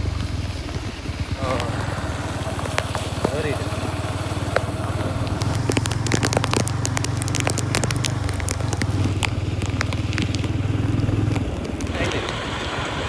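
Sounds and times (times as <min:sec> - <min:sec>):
motorcycle engine running: 0:00.0 - 0:13.0
sharp crackling clicks: 0:00.0 - 0:13.0.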